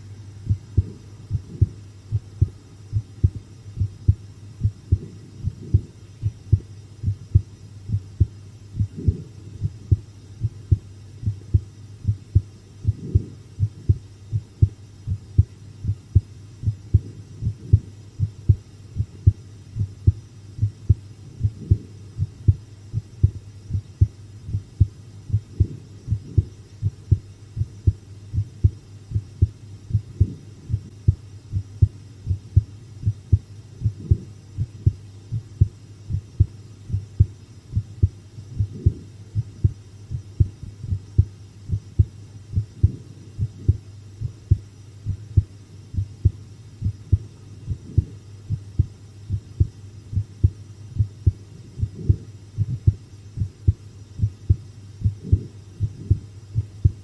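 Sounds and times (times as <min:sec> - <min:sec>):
faint low hum: 0:00.0 - 0:57.0
human heartbeat thumps: 0:00.4 - 0:57.0.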